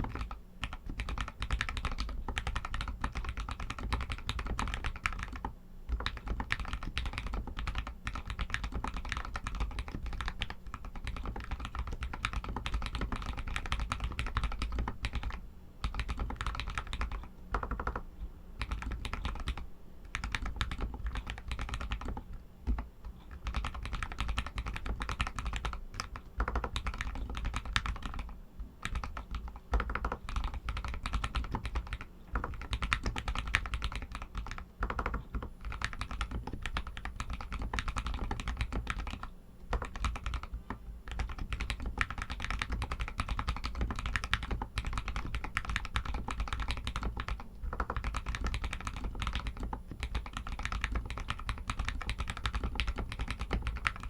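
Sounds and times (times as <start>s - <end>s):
mechanical keyboard typing: 0.0s - 54.0s.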